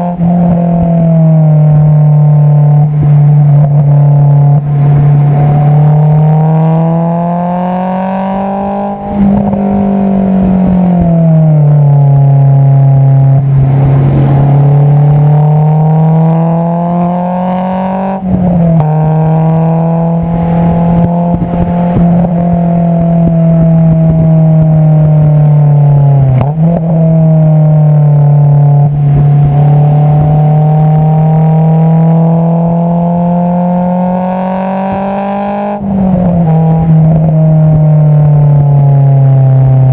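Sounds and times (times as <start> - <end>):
car exhaust revving under load: 0.0 - 39.9.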